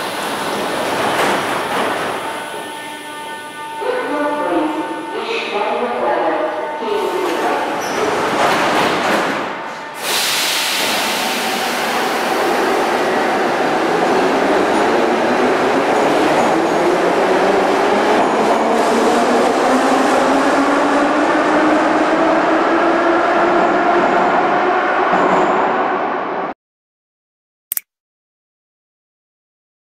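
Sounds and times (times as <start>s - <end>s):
metro train rumbling: 0.0s - 26.6s
rising train whine: 0.0s - 26.6s.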